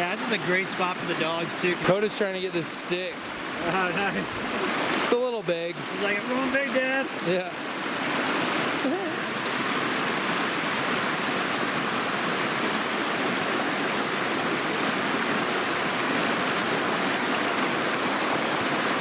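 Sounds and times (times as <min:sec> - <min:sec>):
creek babbling over rocks: 0:00.0 - 0:19.0.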